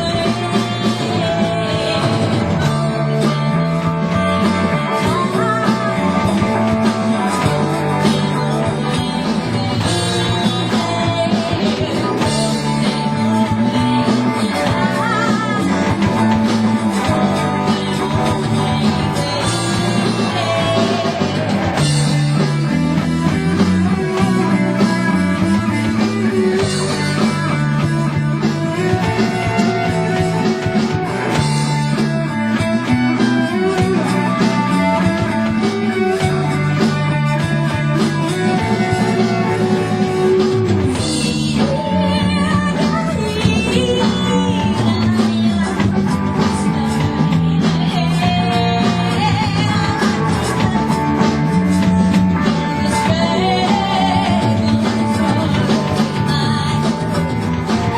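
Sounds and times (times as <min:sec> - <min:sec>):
bass line: 0:00.0 - 0:57.9
drums: 0:00.0 - 0:57.9
electric guitars: 0:00.0 - 0:57.9
person singing: 0:00.0 - 0:57.9.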